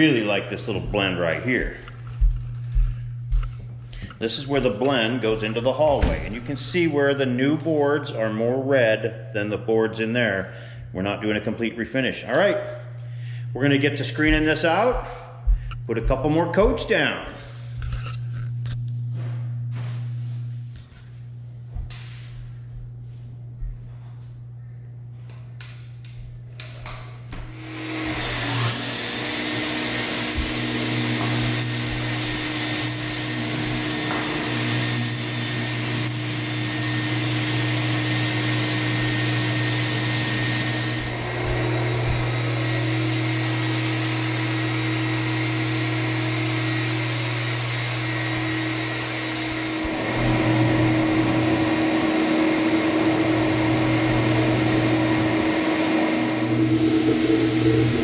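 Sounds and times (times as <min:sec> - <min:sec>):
floor buffer motor hum: 0:00.0 - 0:58.0
vacuum running: 0:00.0 - 0:58.0.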